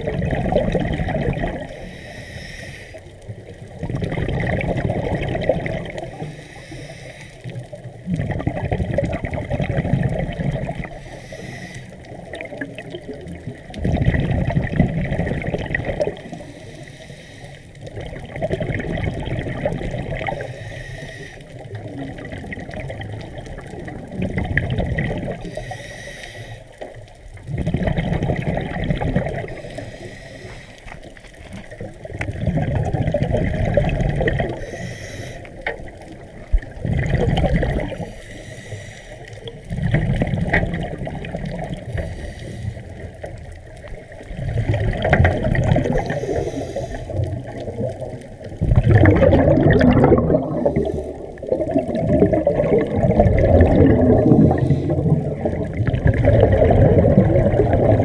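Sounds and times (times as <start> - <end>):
water sloshing and rushing: 0.0 - 58.0.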